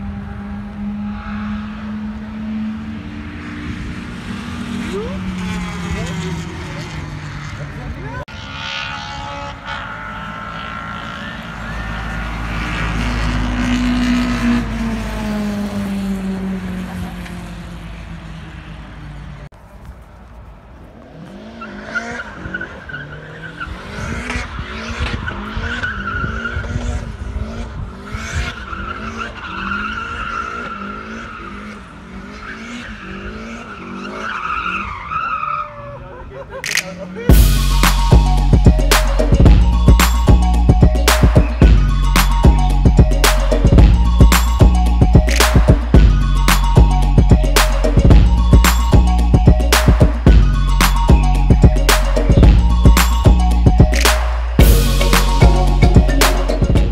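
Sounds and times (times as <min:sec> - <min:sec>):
engine revving up and down: 0:00.0 - 0:19.2, 0:21.0 - 0:35.0, 0:36.8 - 0:56.9
race cars accelerating past: 0:00.0 - 0:19.5, 0:20.8 - 0:56.9.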